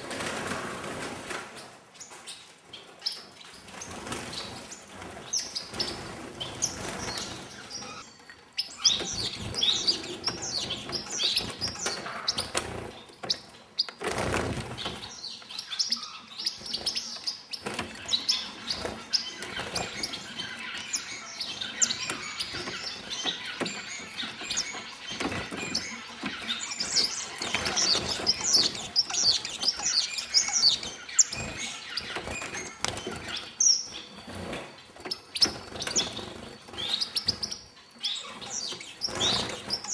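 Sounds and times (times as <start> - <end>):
finches chirping: 2.0 - 39.9.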